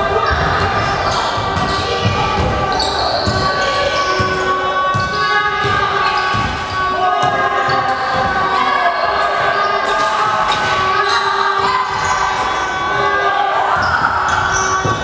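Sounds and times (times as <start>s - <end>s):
voices in a large hall: 0.0s - 15.0s.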